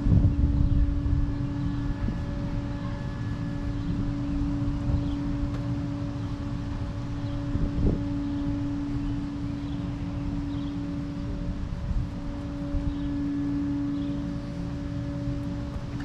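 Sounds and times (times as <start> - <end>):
low mechanical hum: 0.0 - 16.0
wind rumbling on microphone: 0.0 - 16.0.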